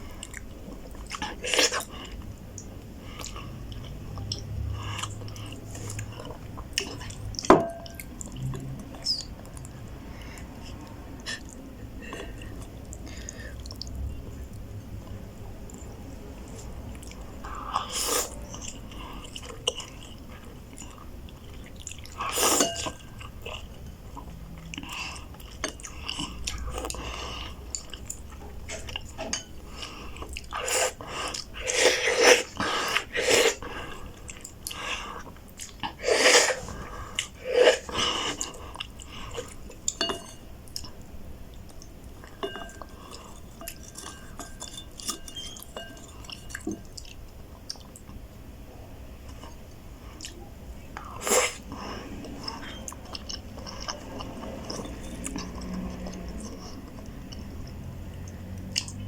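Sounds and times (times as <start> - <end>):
person chewing noodles: 0.0 - 14.6, 16.9 - 48.2, 49.2 - 59.0.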